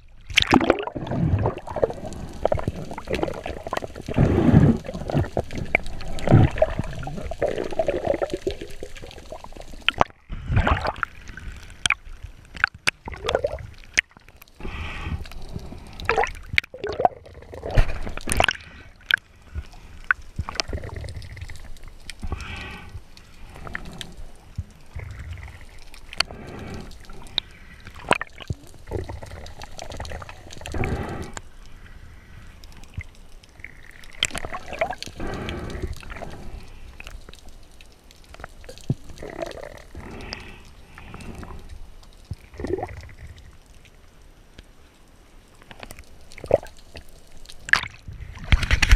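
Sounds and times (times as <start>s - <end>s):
sea water gurgling and sloshing: 0.0s - 48.9s.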